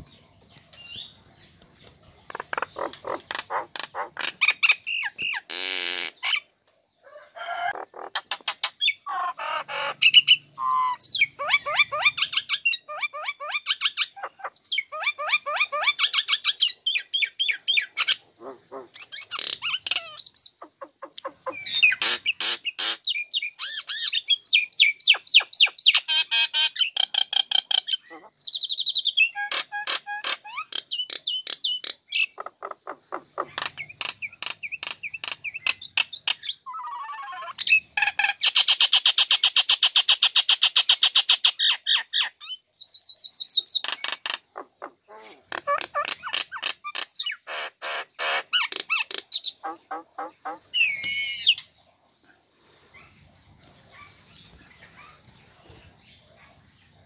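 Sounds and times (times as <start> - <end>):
bird chattering and trilling: 0.0 - 6.5, 7.5 - 57.0.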